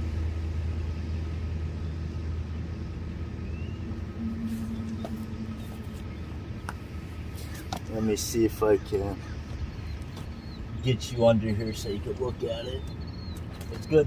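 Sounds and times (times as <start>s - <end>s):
low motor rumble: 0.0s - 14.0s
steady hum: 0.0s - 14.0s.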